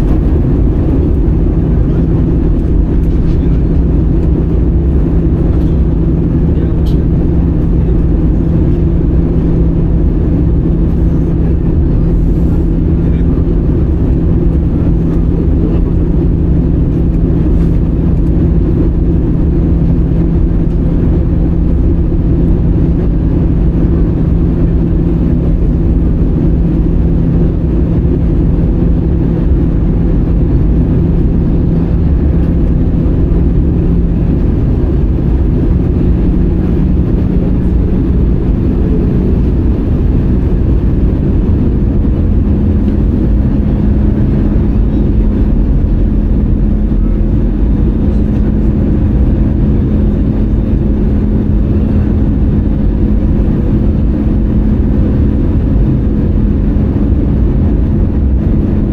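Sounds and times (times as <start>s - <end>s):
airplane cabin engine and airflow: 0.0s - 58.9s.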